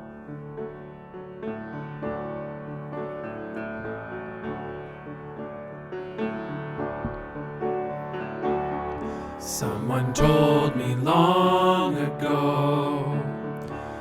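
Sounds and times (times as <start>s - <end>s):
piano playing sustained chords: 0.0s - 14.0s.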